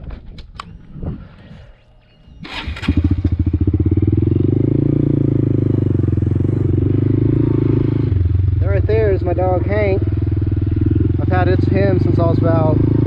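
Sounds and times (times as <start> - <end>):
motorcycle engine starting and idling: 2.3 - 13.0.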